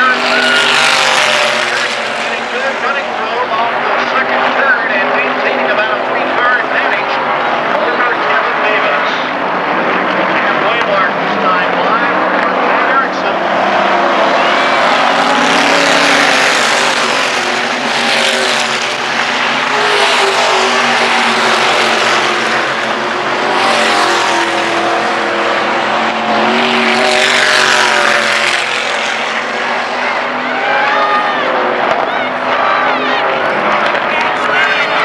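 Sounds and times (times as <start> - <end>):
race car engines: 0.0 - 35.0.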